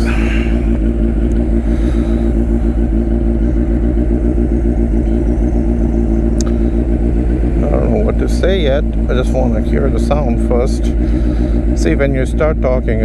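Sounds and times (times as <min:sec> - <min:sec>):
motorcycle engine idling loudly: 0:00.0 - 0:13.0.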